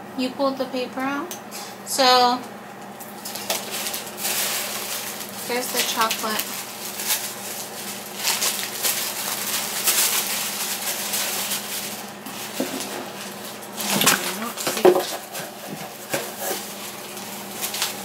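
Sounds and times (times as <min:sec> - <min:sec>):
paper packaging crinkling: 0:03.1 - 0:18.0.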